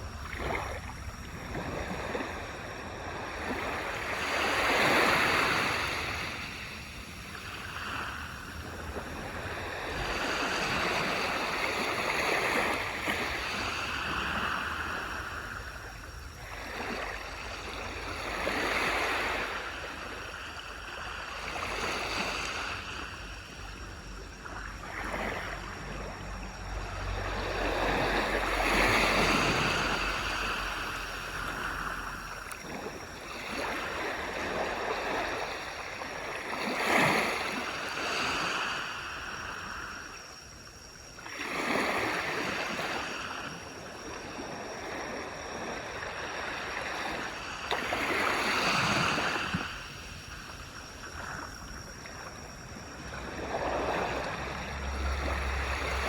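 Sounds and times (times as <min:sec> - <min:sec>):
small waves washing up a beach: 0:00.0 - 0:56.0.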